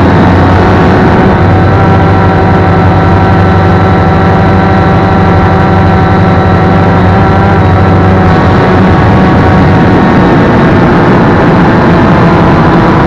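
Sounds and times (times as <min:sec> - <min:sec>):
drone motors humming: 0:00.0 - 0:13.0.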